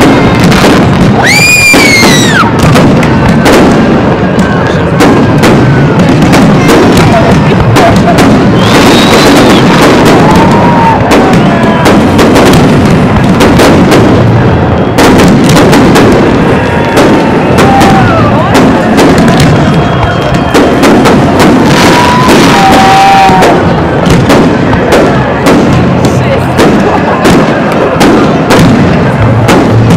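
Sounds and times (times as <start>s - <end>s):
firework whistling: 0.0s - 29.9s
fireworks bursting: 0.0s - 29.9s.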